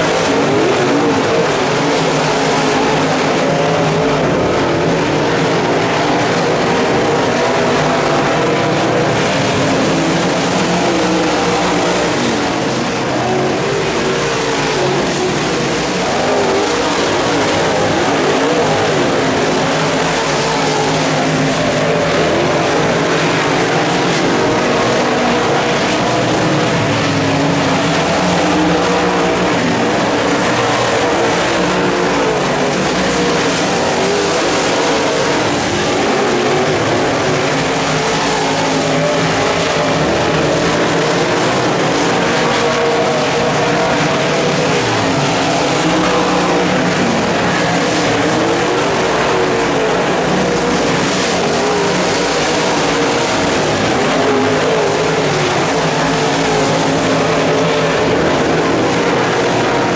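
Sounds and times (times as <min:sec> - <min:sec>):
race car engines roaring: 0:00.0 - 0:59.9.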